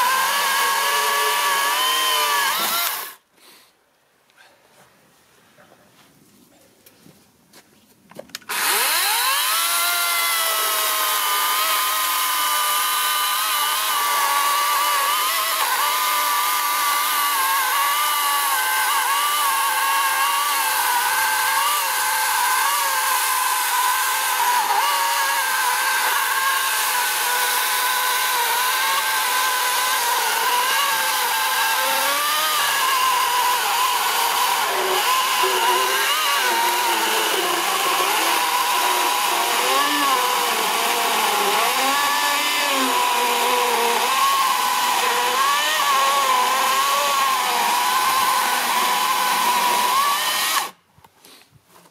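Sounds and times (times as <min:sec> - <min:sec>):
chainsaw cutting a log: 0:00.0 - 0:03.2, 0:08.5 - 0:50.8.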